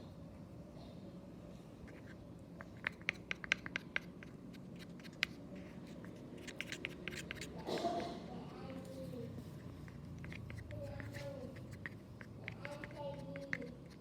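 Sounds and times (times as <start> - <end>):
slime stirring clicks and scratches: 1.8 - 14.0.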